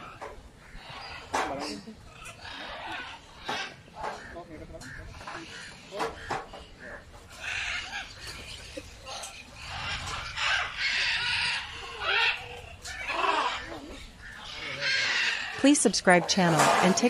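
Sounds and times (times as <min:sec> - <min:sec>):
parrots squawking: 0:00.0 - 0:15.7.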